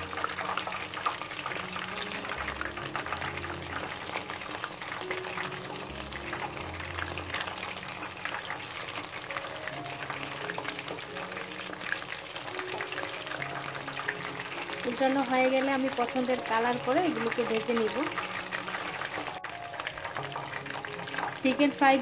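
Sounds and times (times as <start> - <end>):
food deep-frying in oil: 0.0 - 22.0
soft background music: 0.0 - 22.0.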